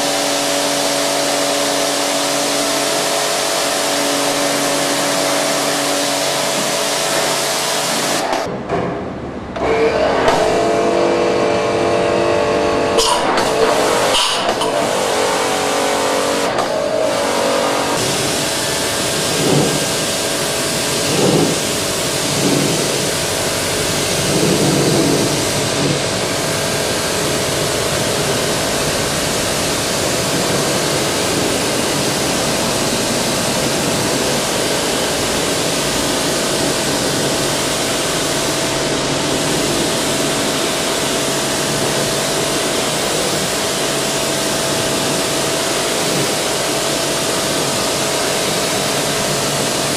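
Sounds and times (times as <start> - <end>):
pressure washer spraying concrete: 0.0 - 8.5, 11.5 - 49.9
motor hum: 9.6 - 49.9.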